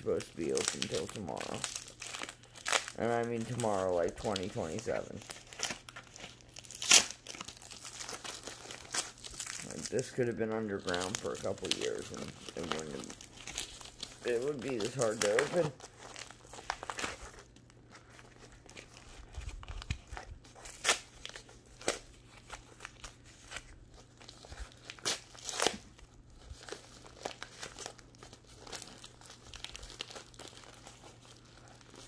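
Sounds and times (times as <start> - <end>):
tape and plastic crinkling and ripping: 0.0 - 32.0.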